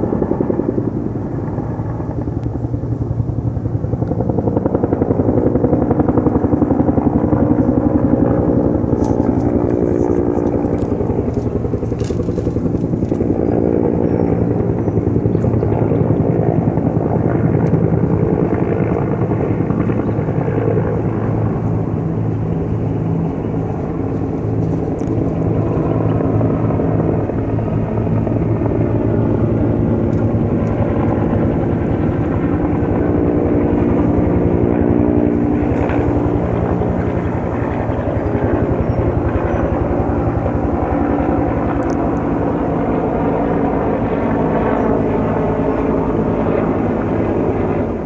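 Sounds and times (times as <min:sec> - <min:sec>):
helicopter engine and rotor: 0:00.0 - 0:48.0.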